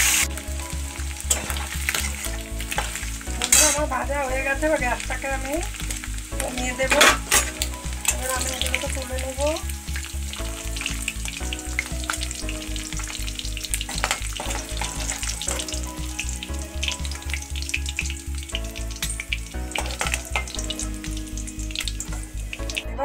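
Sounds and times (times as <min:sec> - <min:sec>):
hot oil sizzling and crackling: 0:00.0 - 0:23.0.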